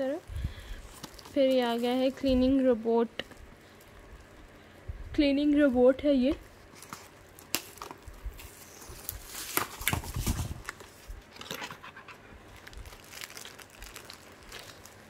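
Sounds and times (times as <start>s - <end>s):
plastic wrap rustling and crinkling: 0.0s - 15.0s.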